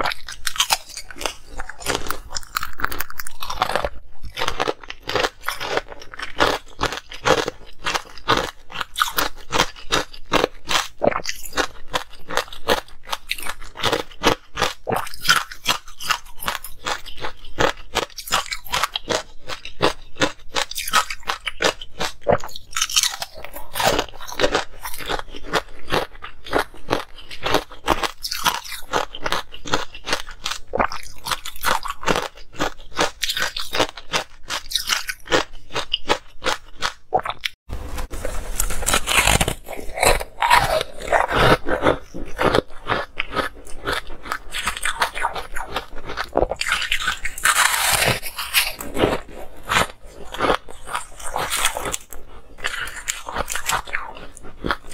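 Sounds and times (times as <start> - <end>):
crunching and chewing ice: 0.0 - 54.9.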